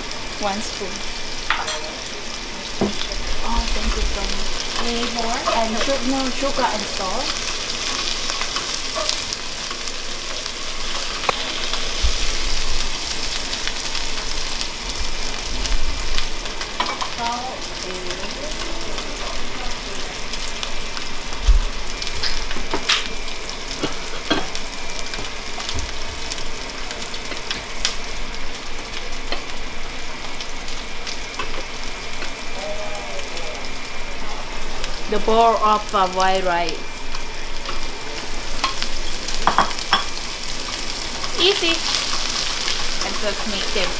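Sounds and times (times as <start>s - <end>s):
food sizzling in hot oil: 0.0s - 43.9s.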